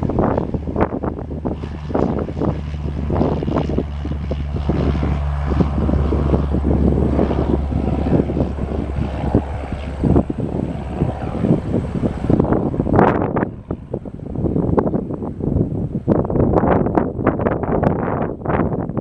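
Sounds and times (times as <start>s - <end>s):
propeller plane engine drone: 0.0s - 19.0s
wind buffeting microphone: 0.0s - 19.0s.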